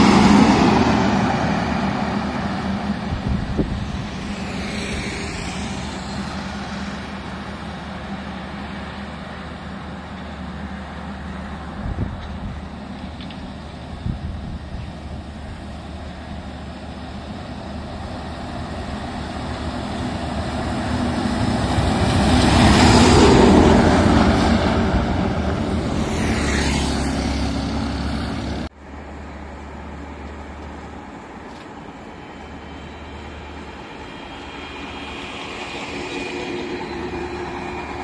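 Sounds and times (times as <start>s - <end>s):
distant traffic: 0.0s - 38.0s
lorry diesel engine passing: 0.0s - 38.0s.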